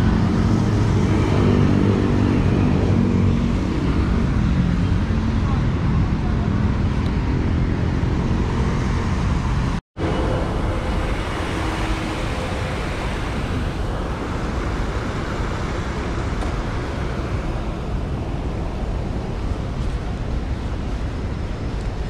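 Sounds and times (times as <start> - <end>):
cars passing on wet streets: 0.0 - 22.0.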